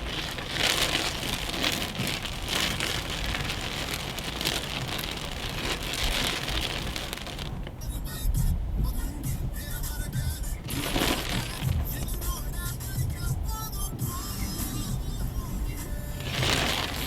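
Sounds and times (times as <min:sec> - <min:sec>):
heavy rain hissing and pattering: 0:00.0 - 0:17.0
low rumble: 0:00.0 - 0:17.0.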